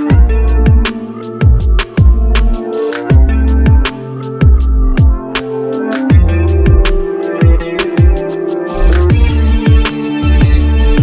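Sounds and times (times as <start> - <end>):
electronic music with steady beat: 0.0 - 11.0
hi-hat ticks: 0.0 - 11.0
deep kick drums: 0.1 - 5.3, 6.1 - 8.2, 8.8 - 11.0
sustained bass: 0.1 - 5.3, 6.1 - 11.0.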